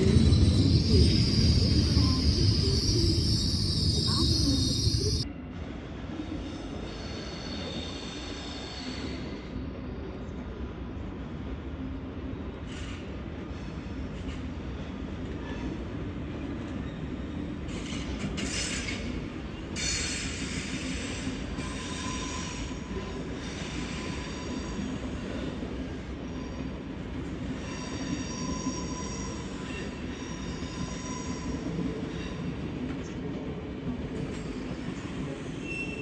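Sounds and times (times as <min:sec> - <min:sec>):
train wheels squealing: 0:00.0 - 0:10.4, 0:12.4 - 0:36.0
train rumbling on rails: 0:00.0 - 0:36.0.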